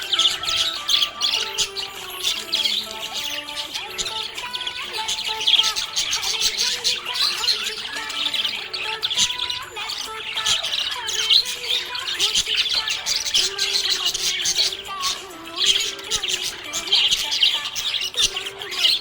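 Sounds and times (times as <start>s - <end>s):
budgerigars chirping and warbling: 0.0s - 19.0s.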